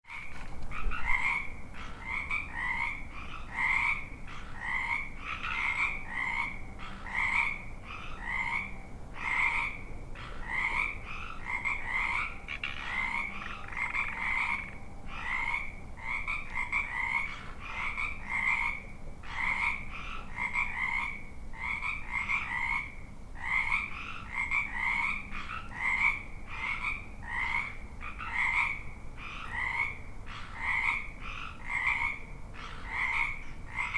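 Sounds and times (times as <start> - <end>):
frogs croaking: 0.1 - 33.9.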